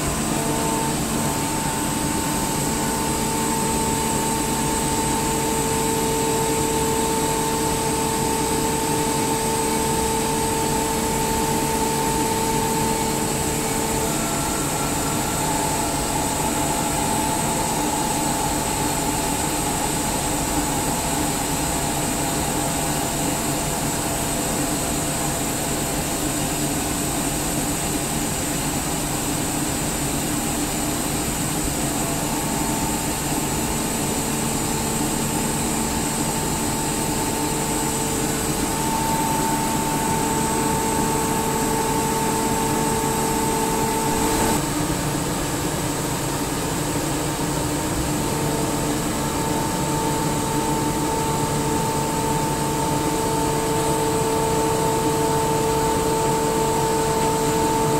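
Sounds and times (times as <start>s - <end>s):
air compressor running: 0.0s - 57.9s.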